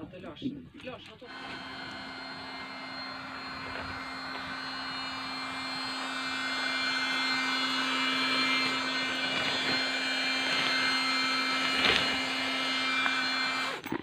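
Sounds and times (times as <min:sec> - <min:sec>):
electric air pump humming: 0:01.3 - 0:14.0.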